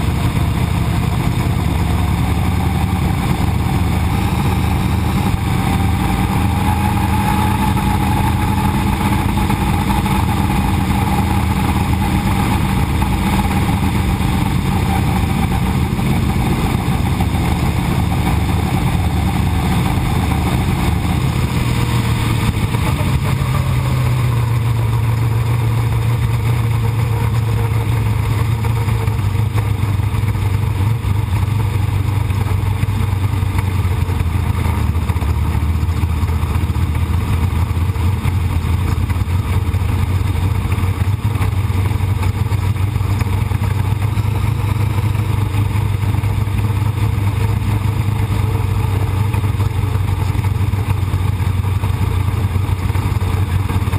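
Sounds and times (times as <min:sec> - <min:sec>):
race car engine running: 0:00.0 - 0:53.9
wind and dirt noise: 0:00.0 - 0:53.9.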